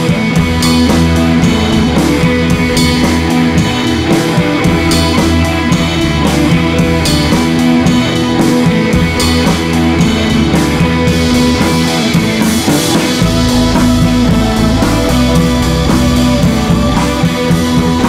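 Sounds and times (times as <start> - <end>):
bass: 0.0 - 18.0
guitar and drums music: 0.0 - 18.0.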